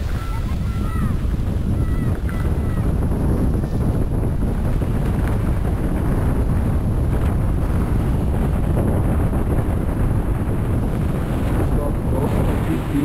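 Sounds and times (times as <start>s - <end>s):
wind blowing over microphone: 0.0s - 13.0s.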